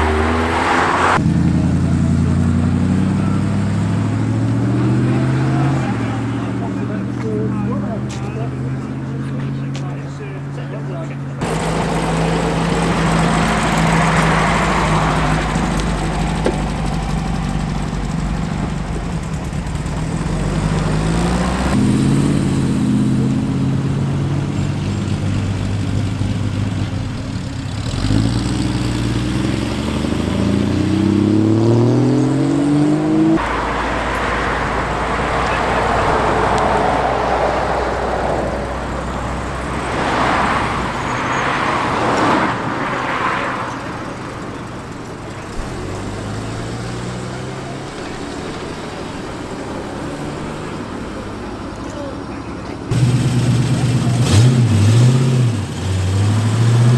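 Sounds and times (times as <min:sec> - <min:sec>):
car engine speeding up: 0:00.0 - 0:09.7, 0:10.5 - 0:51.8, 0:52.9 - 0:56.9
rush of passing vehicles: 0:00.0 - 0:56.9.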